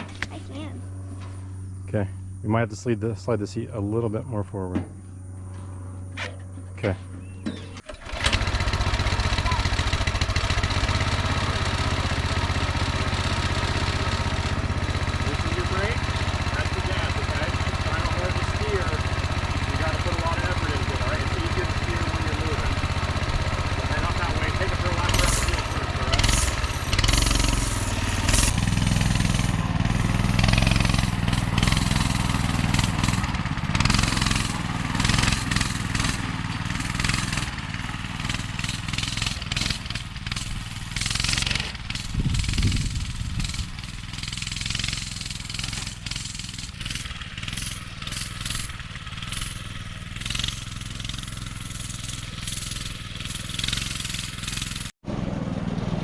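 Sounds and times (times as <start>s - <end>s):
go-kart engine running: 0.0s - 1.1s, 6.4s - 56.0s.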